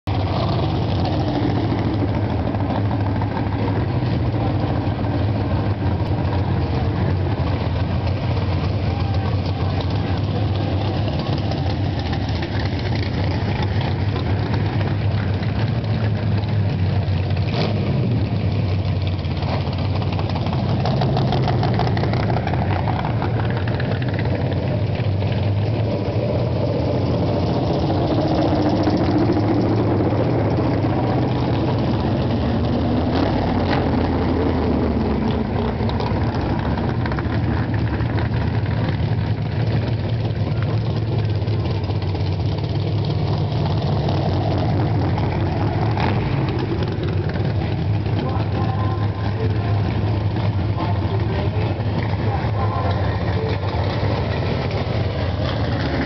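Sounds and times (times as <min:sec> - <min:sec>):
drag car engines idling: 0:00.0 - 0:56.0.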